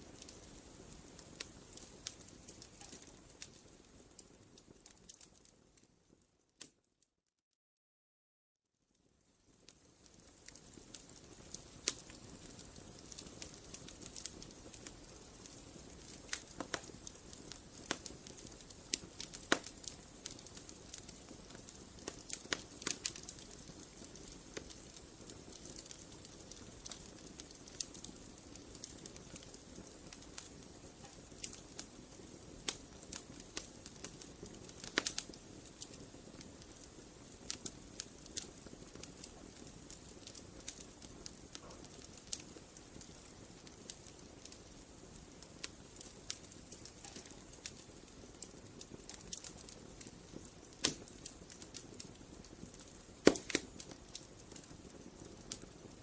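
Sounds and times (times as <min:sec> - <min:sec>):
campfire crackling and popping: 0:00.0 - 0:06.8, 0:09.0 - 0:56.0
hiss of burning: 0:09.7 - 0:56.0.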